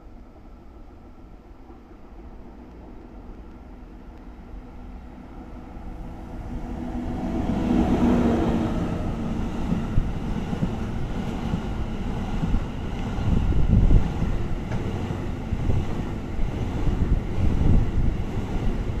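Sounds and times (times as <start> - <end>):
electric locomotive passing: 0.0 - 19.0.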